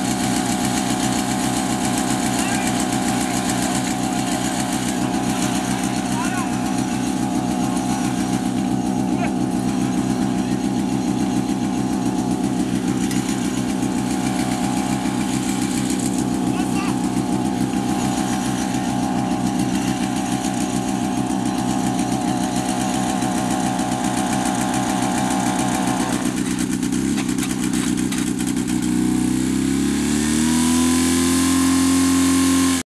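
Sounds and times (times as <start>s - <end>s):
small petrol engine revving: 0.0s - 32.8s.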